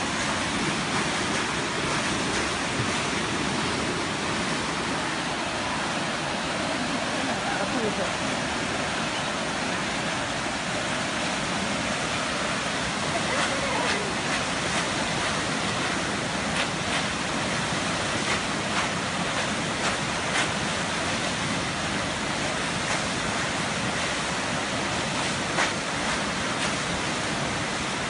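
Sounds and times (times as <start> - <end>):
roar of fast river water: 0.0 - 28.0
sharp water splashes: 0.0 - 28.0.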